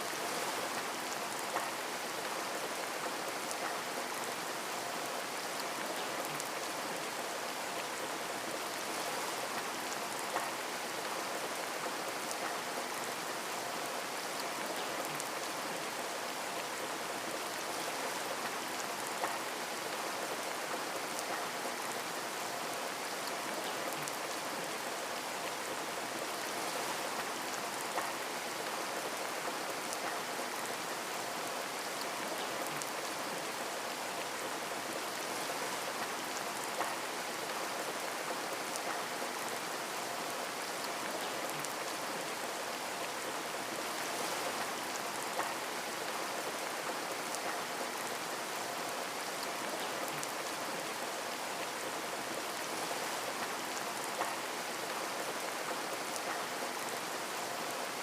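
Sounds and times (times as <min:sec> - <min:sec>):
rain pattering on a window: 0:00.1 - 0:58.0.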